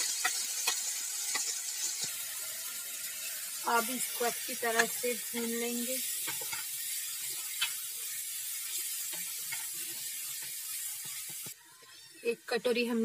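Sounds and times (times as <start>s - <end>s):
paste sizzling in oil: 0.0s - 11.6s.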